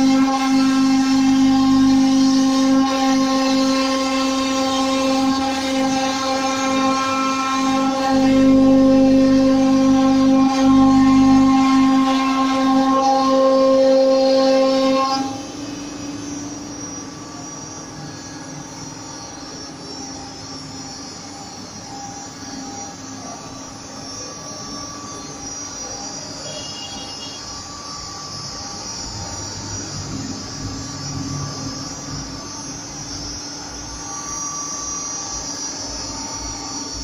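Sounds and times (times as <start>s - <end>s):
wood router whining: 0.0s - 37.0s.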